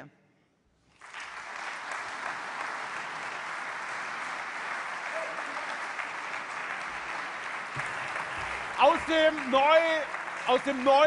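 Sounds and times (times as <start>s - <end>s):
audience applauding: 0.9s - 11.0s.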